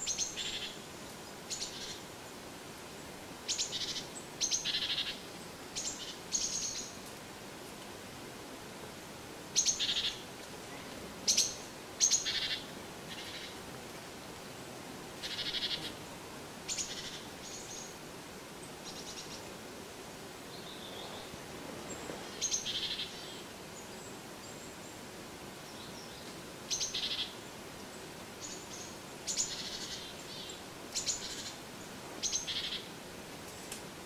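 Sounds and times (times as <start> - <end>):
faint steady hiss: 0.0 - 34.0
songbirds chirping: 0.0 - 34.0.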